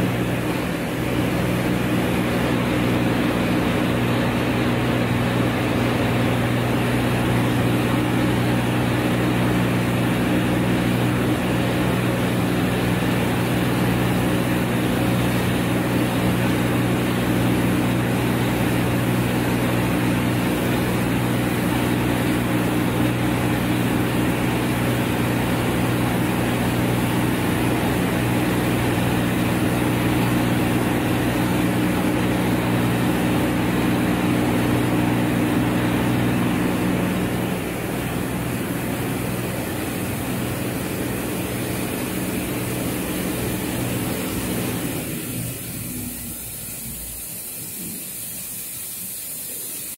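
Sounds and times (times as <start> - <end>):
rice milling machine humming: 0.0 - 49.9.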